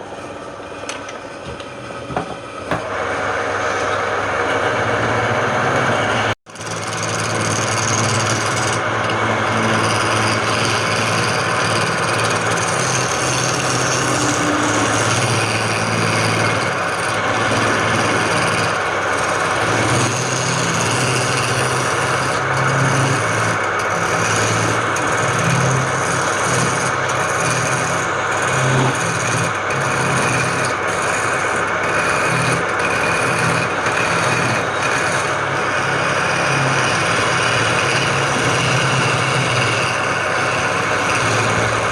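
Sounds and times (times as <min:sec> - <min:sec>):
lathe motor humming: 0:00.0 - 0:41.9
lathe tool rasping on wood: 0:01.6 - 0:41.9.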